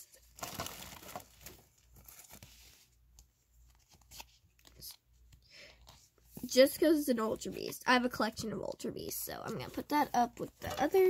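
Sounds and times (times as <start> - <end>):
cards rustling: 0.2 - 11.0.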